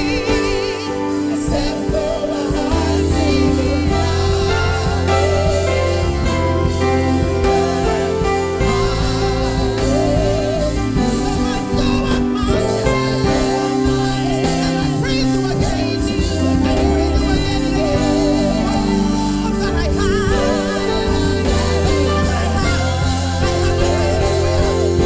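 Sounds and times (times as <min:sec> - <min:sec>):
person singing: 0:00.0 - 0:25.0
worship band playing: 0:00.0 - 0:25.0.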